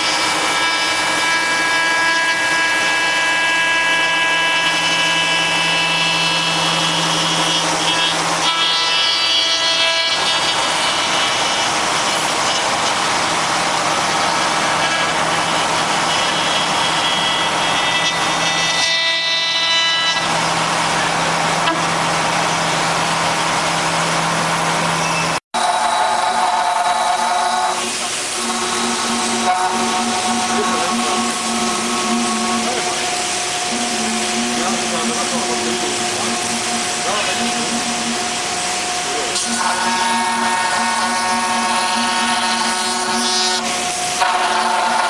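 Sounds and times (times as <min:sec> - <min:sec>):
router spindle whine: 0:00.0 - 0:24.3, 0:25.6 - 0:45.0.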